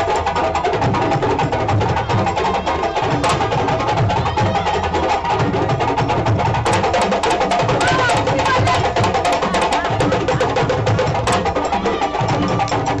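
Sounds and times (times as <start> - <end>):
drums in fast rhythm: 0.0 - 13.0.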